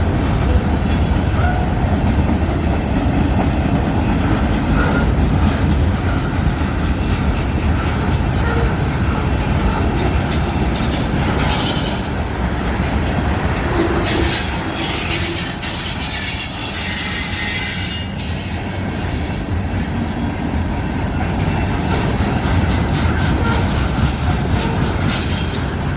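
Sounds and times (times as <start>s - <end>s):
train wheels rumbling on rails: 0.0s - 25.9s
wheels clicking over rail joints: 0.3s - 17.5s, 20.7s - 25.9s.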